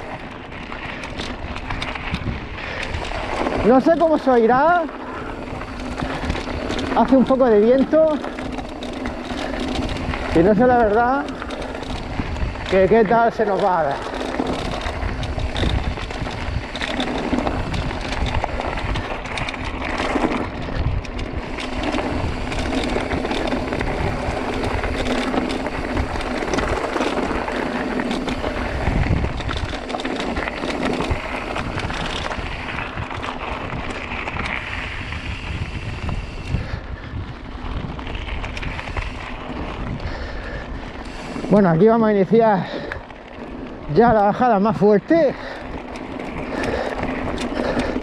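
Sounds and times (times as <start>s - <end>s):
tyres crunching over rock: 0.0s - 35.3s, 41.1s - 48.0s
bike knocking and rattling: 0.0s - 48.0s
wind buffeting microphone: 0.0s - 48.0s.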